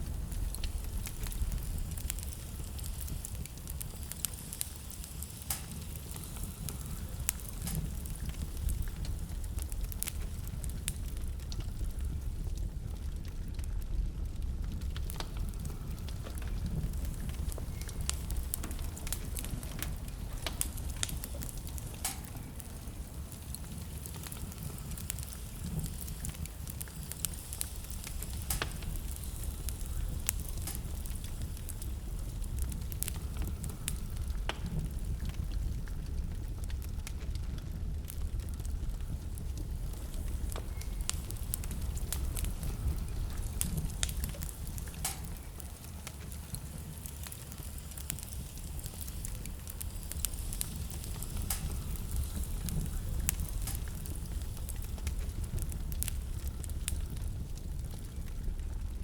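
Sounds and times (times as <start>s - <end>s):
blizzard wind rumble: 0.0s - 59.0s
wood fire crackling: 0.0s - 59.0s.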